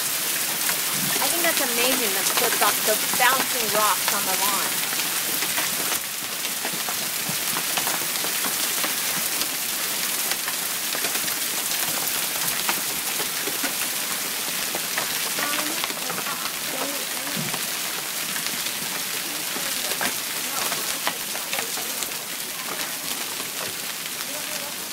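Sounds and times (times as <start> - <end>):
hailstones striking surfaces: 0.0 - 24.9
heavy rain hissing: 0.0 - 24.9.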